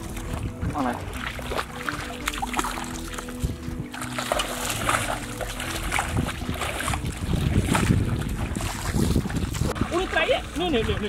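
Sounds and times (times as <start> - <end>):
wind rumbling on microphone: 0.0 - 1.8, 3.0 - 11.0
footsteps squelching through mud: 0.0 - 11.0.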